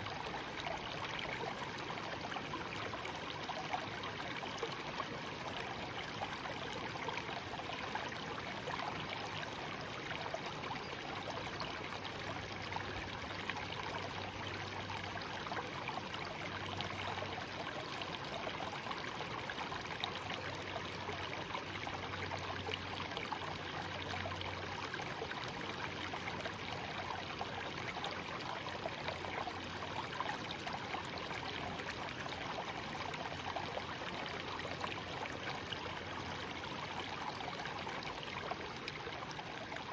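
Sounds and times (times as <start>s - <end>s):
shallow stream babbling: 0.0s - 39.9s.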